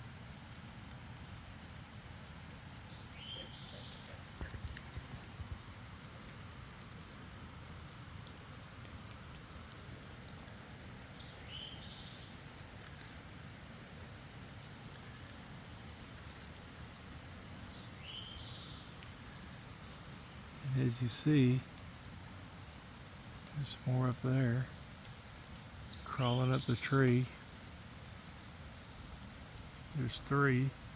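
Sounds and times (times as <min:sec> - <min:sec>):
faint outdoor hiss: 0:00.0 - 0:30.9.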